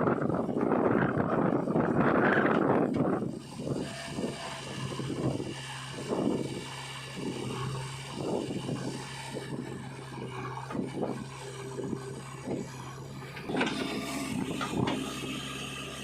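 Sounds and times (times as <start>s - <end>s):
diesel machinery engine running: 0.0s - 16.0s.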